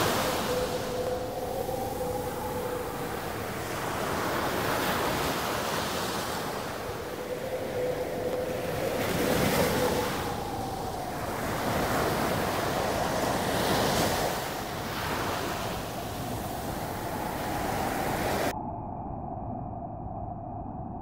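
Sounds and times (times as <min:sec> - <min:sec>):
ocean waves rushing: 0:00.0 - 0:18.5.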